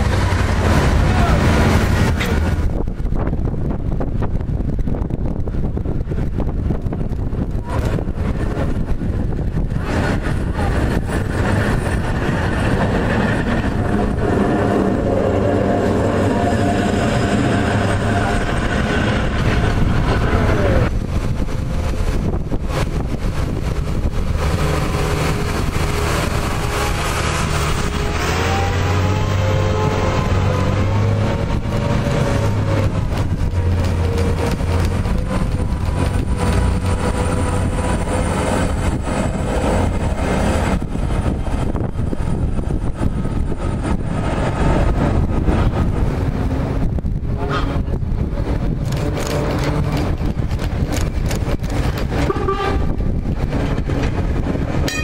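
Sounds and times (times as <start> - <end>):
tram rumbling past: 0.0 - 55.0
tram wheels rumbling on track: 0.0 - 55.0.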